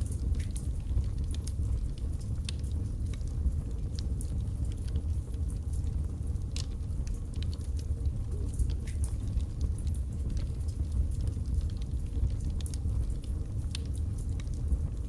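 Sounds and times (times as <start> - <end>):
fire crackles and pops: 0.0 - 15.0
fire rumbling: 0.0 - 15.0.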